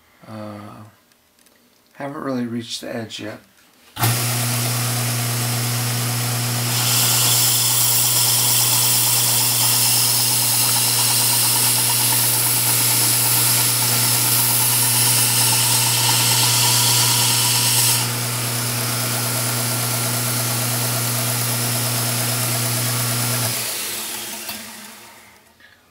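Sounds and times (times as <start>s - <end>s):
belt grinder motor humming: 4.0s - 25.5s
belt winding down: 4.0s - 25.5s.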